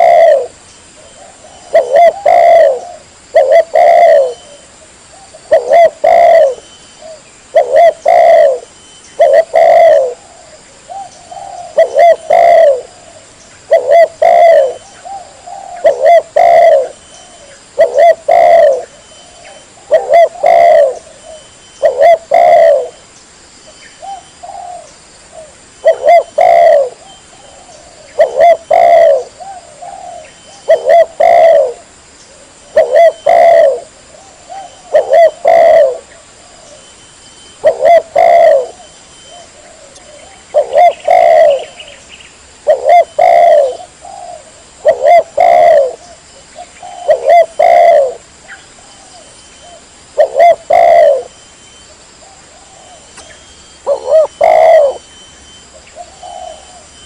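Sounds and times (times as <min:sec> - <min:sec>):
dove cooing: 0:00.0 - 0:23.0, 0:24.0 - 0:42.0, 0:42.6 - 0:51.4, 0:52.2 - 0:57.0.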